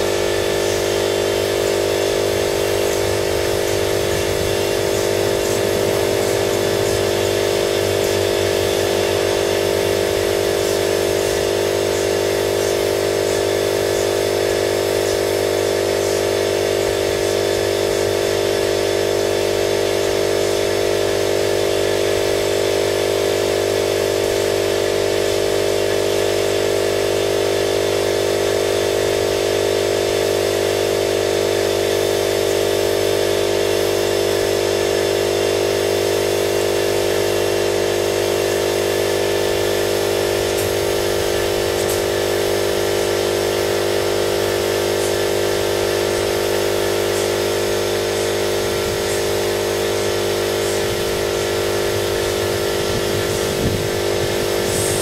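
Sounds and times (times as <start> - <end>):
air compressor drone: 0.0 - 55.0
spray gun hiss: 0.0 - 55.0.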